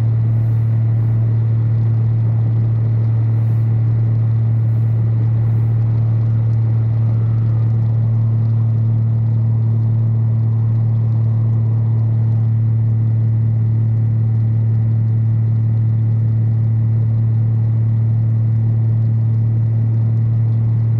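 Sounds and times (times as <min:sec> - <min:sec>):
light aircraft engine droning: 0:00.0 - 0:20.9.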